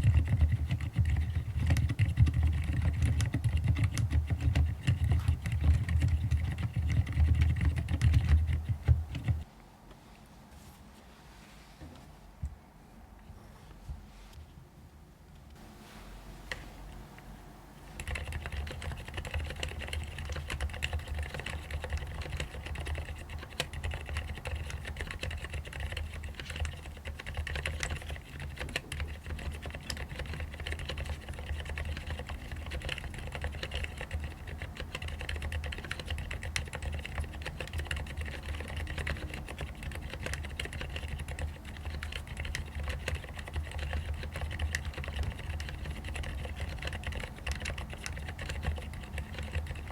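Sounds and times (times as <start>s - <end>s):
fast typing on keyboard: 0.0s - 9.5s, 17.9s - 49.9s.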